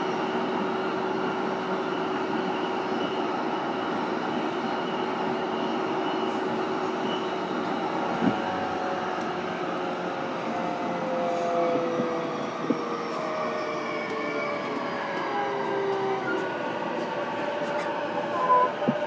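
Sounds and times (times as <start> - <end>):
train wheels rolling on rail: 0.0 - 19.0.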